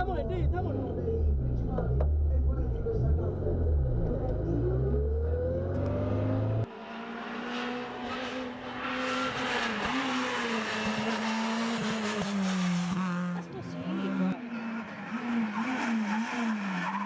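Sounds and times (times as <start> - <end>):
rally car engine: 0.0 - 17.0.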